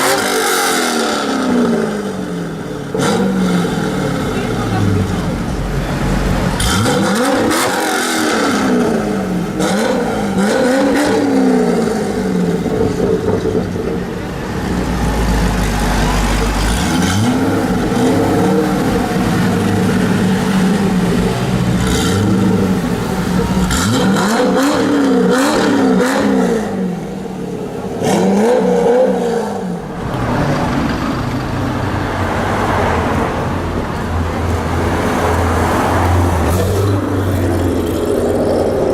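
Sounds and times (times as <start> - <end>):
car engines revving and idling: 0.0 - 38.9.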